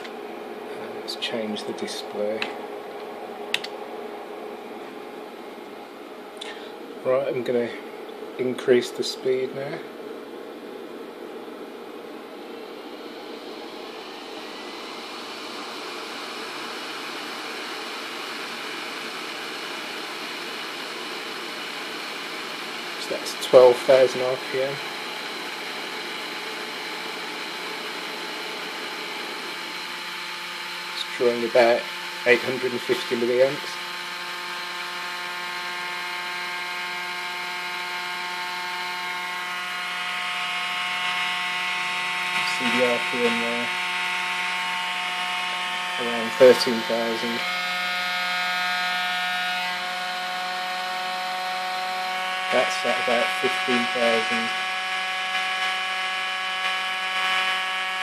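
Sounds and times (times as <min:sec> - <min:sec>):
disc motor whirring: 0:00.0 - 0:58.0.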